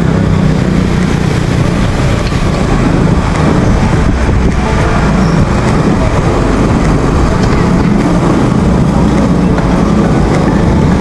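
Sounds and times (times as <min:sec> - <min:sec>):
motorbike and car traffic: 0:00.0 - 0:11.0
wind buffeting microphone: 0:00.0 - 0:11.0.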